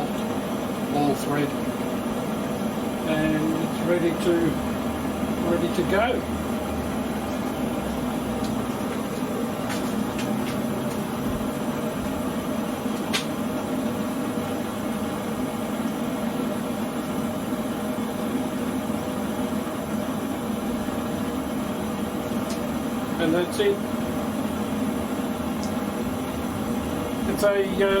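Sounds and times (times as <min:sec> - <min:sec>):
gas burner rushing: 0:00.0 - 0:28.0.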